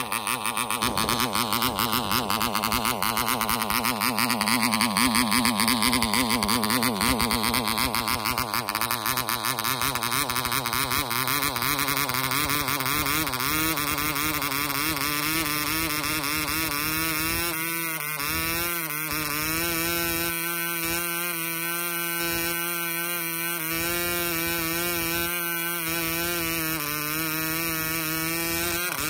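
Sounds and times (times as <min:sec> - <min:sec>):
model engine high buzzing: 0:00.0 - 0:29.0.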